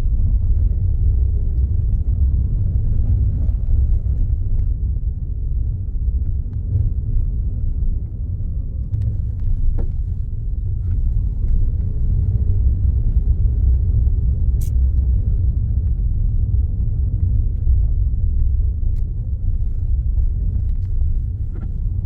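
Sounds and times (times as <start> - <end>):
car interior road and engine noise: 0.0 - 22.0.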